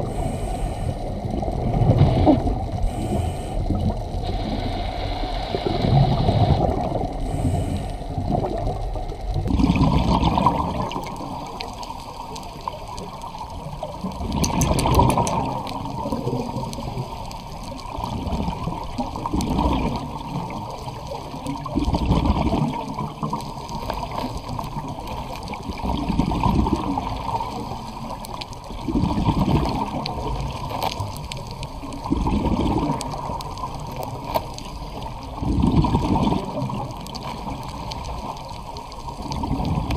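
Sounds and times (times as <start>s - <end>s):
steady wash of water: 0.0s - 39.9s
underwater exhaled bubbles gurgling: 0.0s - 39.9s.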